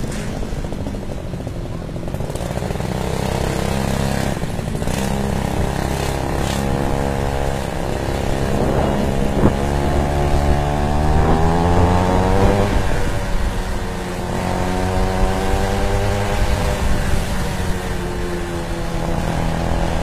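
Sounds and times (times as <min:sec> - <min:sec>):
scooter gas engine running: 0:00.0 - 0:20.0.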